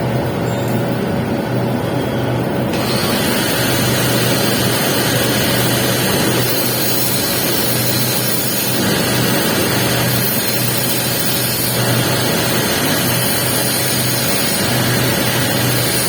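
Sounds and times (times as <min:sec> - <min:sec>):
welding arc crackling sizzle: 0:02.7 - 0:16.0.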